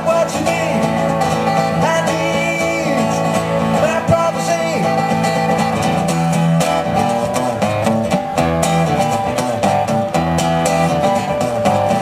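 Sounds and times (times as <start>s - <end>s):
bass guitar: 0.0s - 12.0s
strummed guitar: 0.0s - 12.0s.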